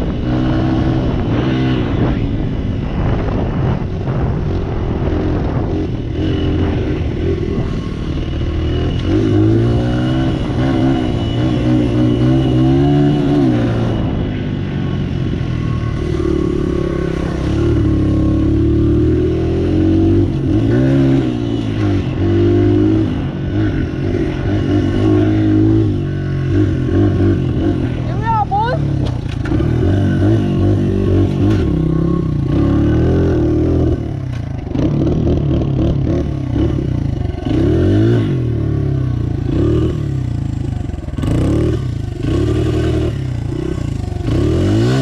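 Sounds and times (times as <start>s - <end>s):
dirt bike engine revving: 2.9s - 45.0s.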